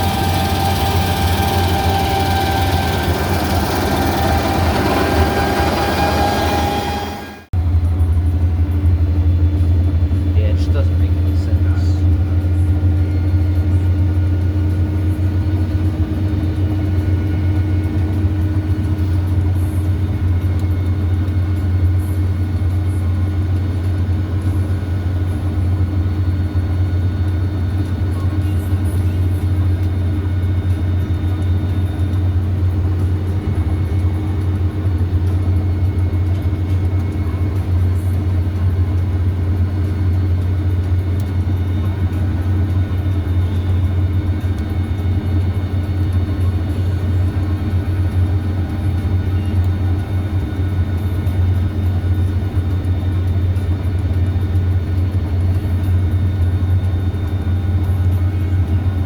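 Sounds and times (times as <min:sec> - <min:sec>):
combine harvester droning: 0:00.0 - 0:59.0
faint steady whines: 0:00.0 - 0:59.0.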